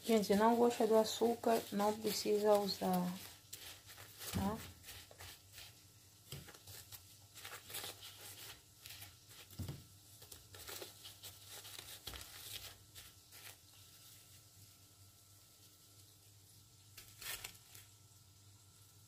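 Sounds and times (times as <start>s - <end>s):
sugar rustling and scraping: 0.0s - 14.8s, 16.9s - 18.0s.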